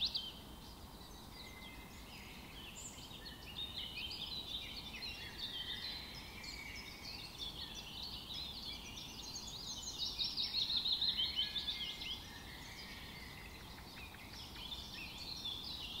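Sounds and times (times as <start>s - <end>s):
small birds chirping chorus: 0.0s - 16.0s.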